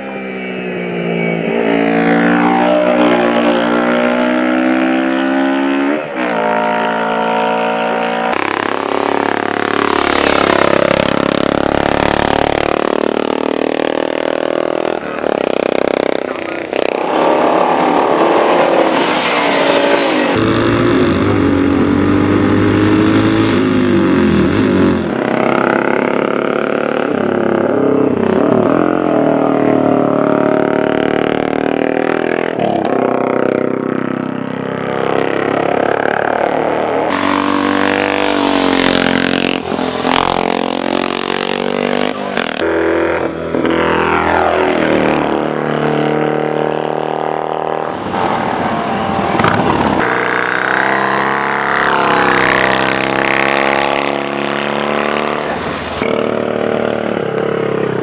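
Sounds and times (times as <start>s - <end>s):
racing motorcycles passing: 0.0s - 58.0s.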